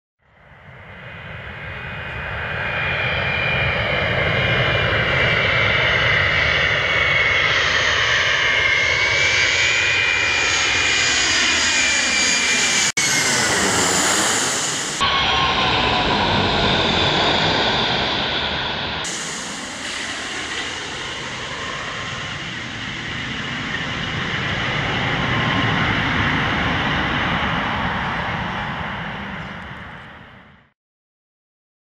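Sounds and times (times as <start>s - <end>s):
jet engines passing overhead: 0.3s - 30.7s.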